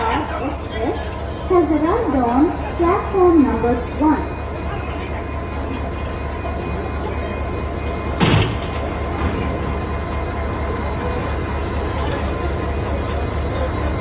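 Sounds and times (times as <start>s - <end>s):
standing train humming: 0.0s - 14.0s.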